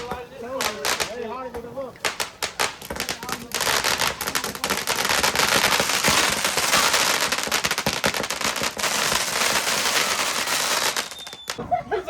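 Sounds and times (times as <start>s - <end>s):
fireworks crackling: 0.0s - 11.6s.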